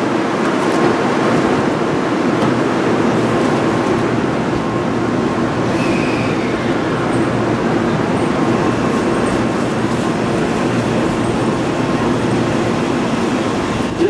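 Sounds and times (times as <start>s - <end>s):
stationary train humming: 0.0s - 14.0s.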